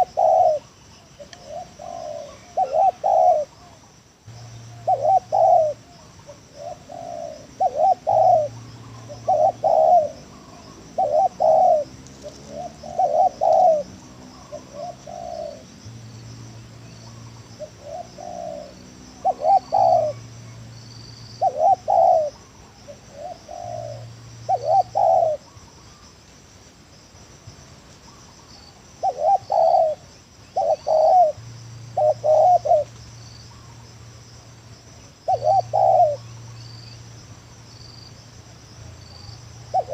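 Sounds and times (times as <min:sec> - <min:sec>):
dove cooing: 0:00.0 - 0:03.8, 0:04.4 - 0:15.8, 0:16.6 - 0:20.6, 0:21.3 - 0:26.1, 0:28.1 - 0:33.9, 0:35.1 - 0:36.7, 0:39.2 - 0:39.9
insects chirring: 0:00.0 - 0:39.9.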